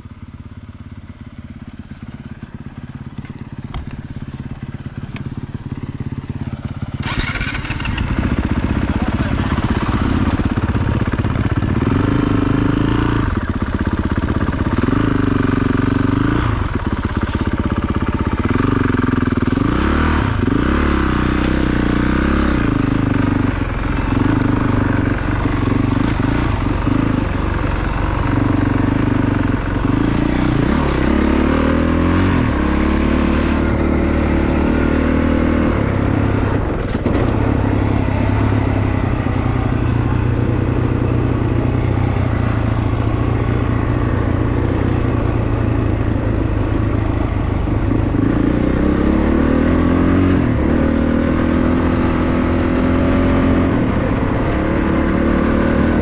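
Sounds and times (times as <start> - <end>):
dirt bike engine accelerating: 0.9 - 56.0.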